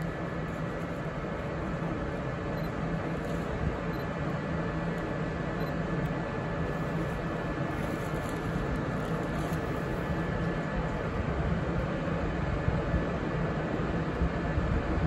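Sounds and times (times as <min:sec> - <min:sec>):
faint high whine: 0:00.0 - 0:15.0
railway station rumble and hum: 0:00.0 - 0:15.0.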